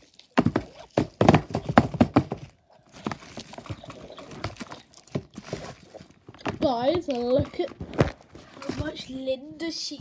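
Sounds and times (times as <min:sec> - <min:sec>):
foil wrappers crinkling: 0:00.0 - 0:02.0, 0:02.7 - 0:08.8.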